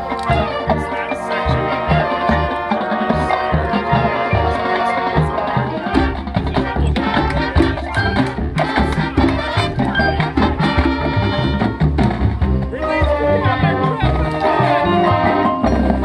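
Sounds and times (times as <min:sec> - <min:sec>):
marimbas: 0:00.0 - 0:11.5, 0:12.4 - 0:16.0
drums: 0:00.0 - 0:16.0
marching band playing: 0:00.0 - 0:16.0.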